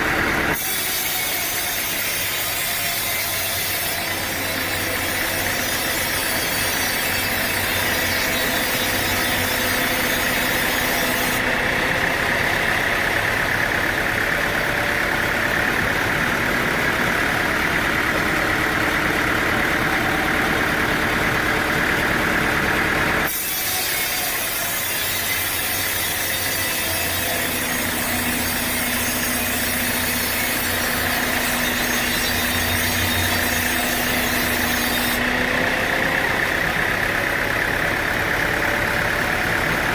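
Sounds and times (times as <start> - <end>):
engine idling: 0.0 - 0.6, 1.2 - 23.3, 24.4 - 39.9
saw cutting through log: 0.0 - 39.9.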